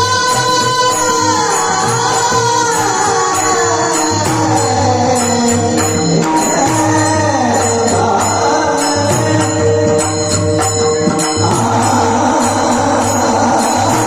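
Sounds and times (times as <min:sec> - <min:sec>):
devotional song music: 0:00.0 - 0:14.0
jingling percussion beat: 0:00.0 - 0:14.0.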